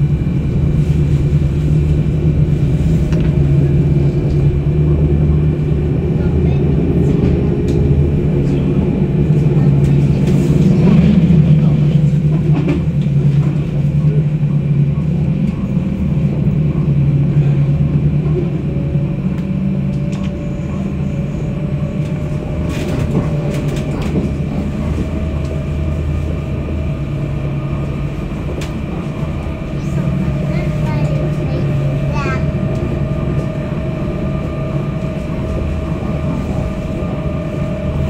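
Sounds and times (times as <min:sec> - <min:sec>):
tram rumbling on track: 0:00.0 - 0:38.0.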